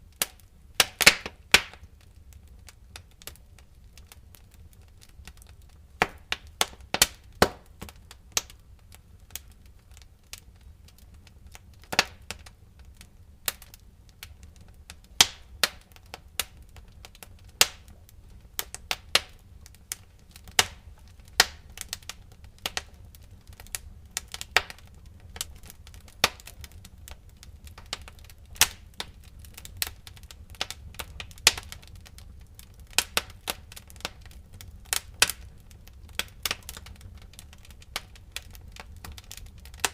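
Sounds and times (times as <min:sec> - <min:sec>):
fire pops and snaps: 0:00.0 - 0:39.9
flames rumbling: 0:00.0 - 0:39.9.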